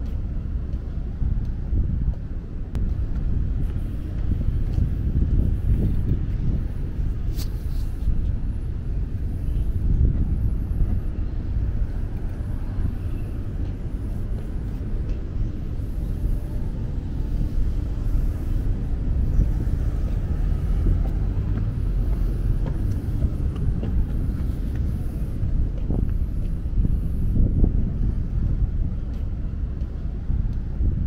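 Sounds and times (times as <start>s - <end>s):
city ambience low rumble: 0.0s - 31.0s.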